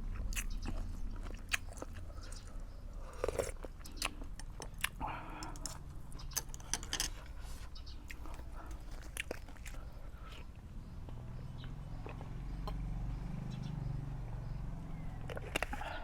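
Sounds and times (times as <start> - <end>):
person chewing food: 0.0 - 12.9, 15.2 - 16.0.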